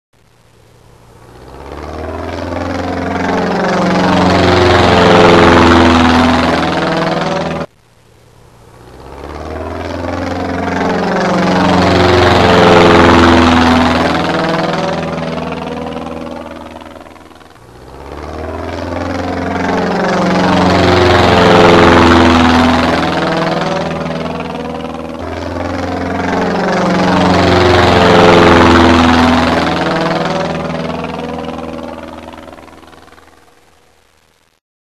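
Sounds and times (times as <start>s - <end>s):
aircraft flyby rush: 1.1s - 7.7s, 8.6s - 33.6s.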